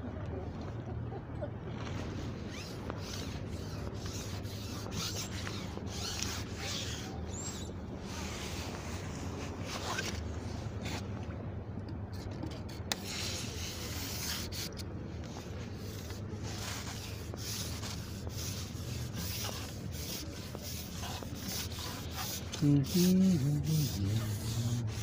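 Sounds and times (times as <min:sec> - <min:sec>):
steady low hum: 0:00.0 - 0:25.0
rubbing rustling on microphone: 0:01.7 - 0:11.2, 0:12.1 - 0:25.0.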